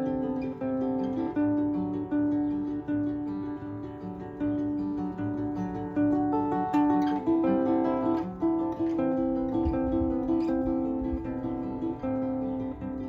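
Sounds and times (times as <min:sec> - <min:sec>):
solo guitar melody: 0:00.0 - 0:13.0.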